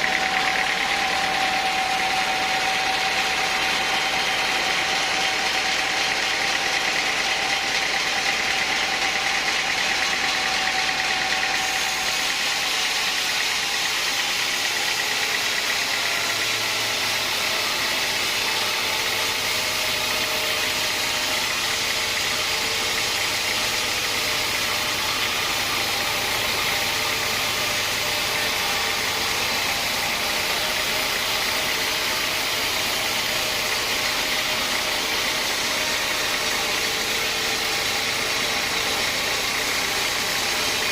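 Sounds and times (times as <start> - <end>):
sawmill saw running: 0.0 - 40.9.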